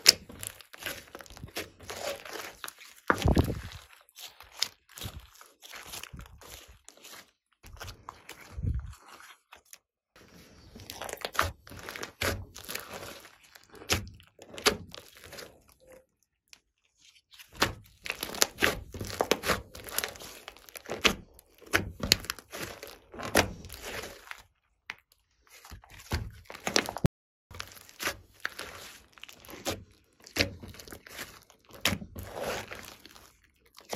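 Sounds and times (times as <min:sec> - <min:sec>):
slime squelching and popping: 0:00.0 - 0:33.9.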